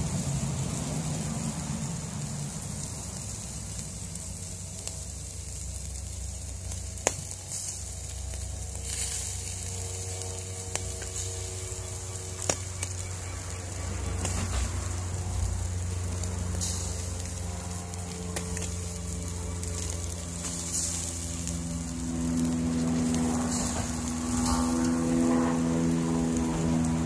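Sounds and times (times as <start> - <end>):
fish sizzling over charcoal: 0.0 - 27.0.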